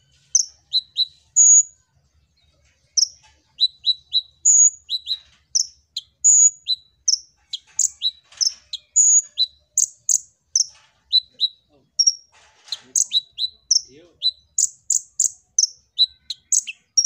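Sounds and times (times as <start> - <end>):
bird chirping rapidly: 0.0 - 1.7, 2.9 - 17.0.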